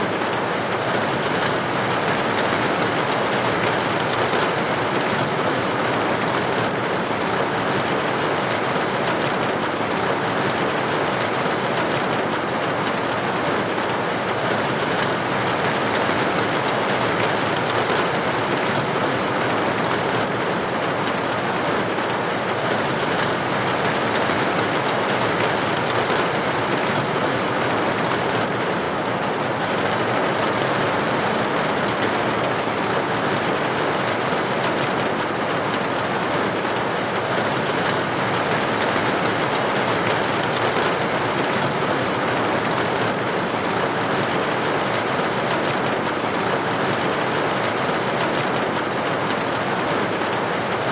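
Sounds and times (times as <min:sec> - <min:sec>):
rain on a window pane: 0:00.0 - 0:50.9.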